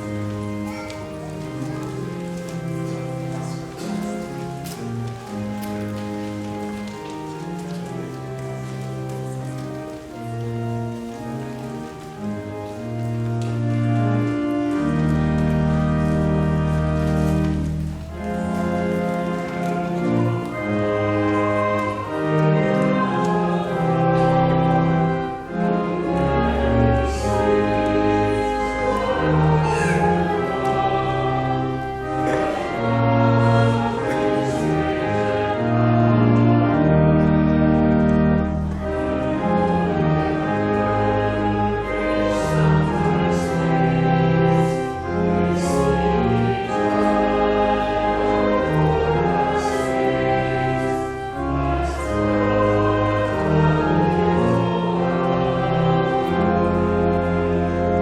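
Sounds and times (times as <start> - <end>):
congregation singing a hymn: 0.0 - 58.0
organ chords: 0.0 - 58.0.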